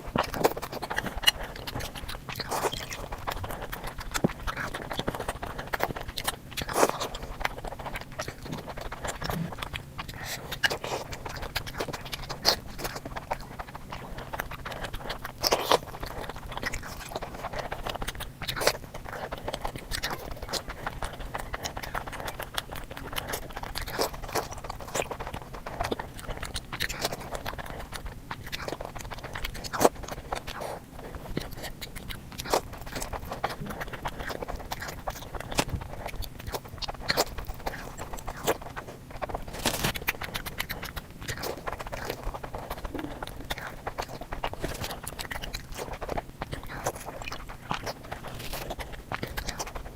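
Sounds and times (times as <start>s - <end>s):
crisp crunches and bites: 0.0s - 49.9s
person chewing: 0.0s - 49.9s.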